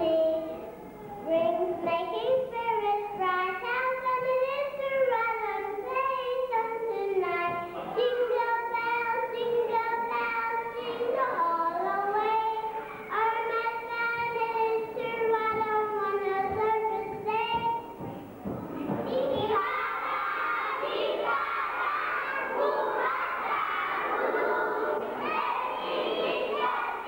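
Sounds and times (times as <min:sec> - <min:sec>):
child singing: 0:00.0 - 0:18.0, 0:18.9 - 0:27.0.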